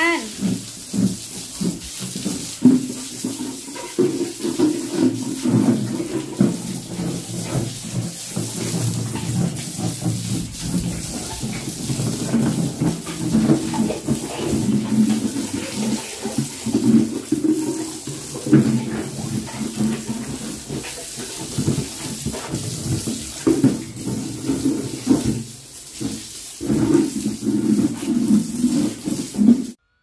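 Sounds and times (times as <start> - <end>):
hose water splashing on concrete: 0.0 - 29.8.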